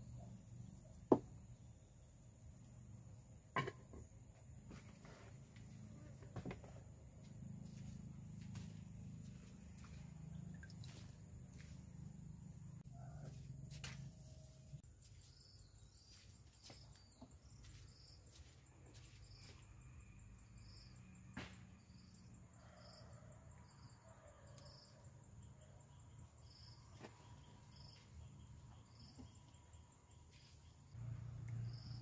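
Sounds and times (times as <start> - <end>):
insects chirping and trilling: 0.0 - 32.0.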